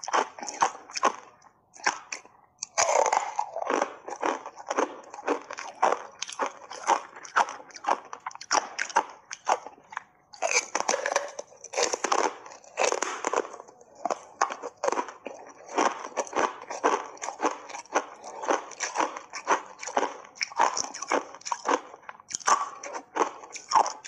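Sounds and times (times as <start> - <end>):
ice being crunched and chewed: 0.0 - 24.0.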